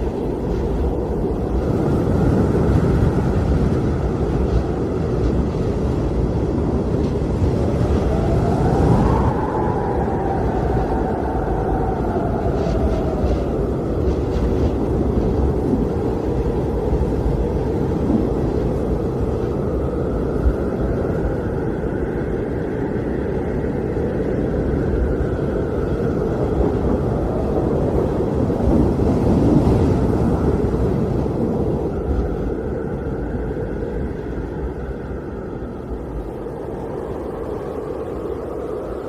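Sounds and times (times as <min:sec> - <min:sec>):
blizzard wind blowing: 0:00.0 - 0:39.0.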